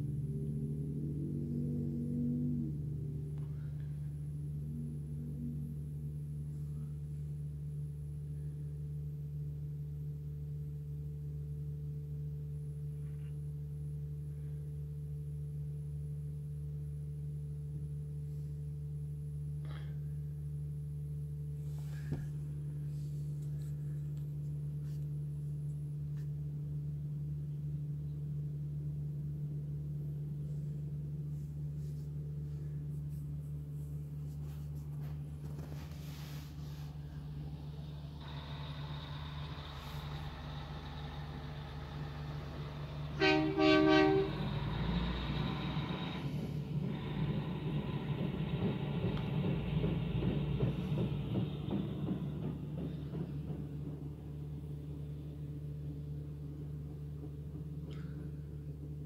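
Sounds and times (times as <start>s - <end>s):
car engine idling hum: 0.0s - 59.0s.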